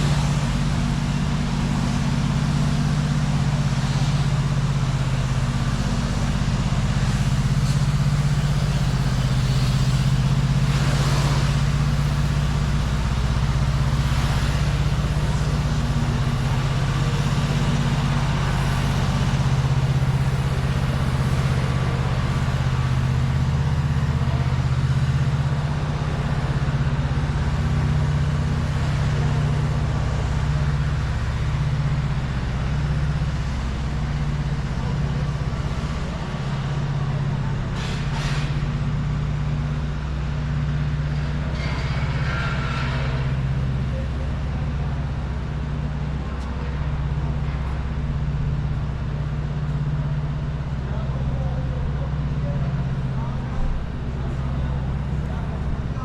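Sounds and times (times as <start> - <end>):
street ambience: 0.0 - 56.0
vehicle engine hum: 0.0 - 56.0.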